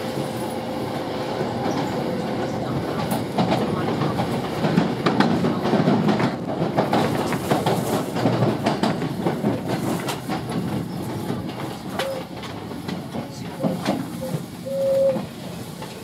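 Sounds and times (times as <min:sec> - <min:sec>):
train running rumble: 0:00.0 - 0:16.0
wheels clacking over rail joints: 0:01.4 - 0:16.0.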